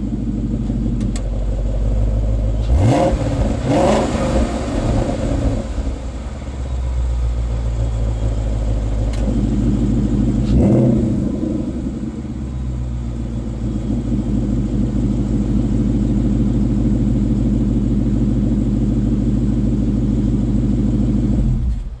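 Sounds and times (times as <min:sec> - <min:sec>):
car engine exhaust note: 0:00.0 - 0:22.0.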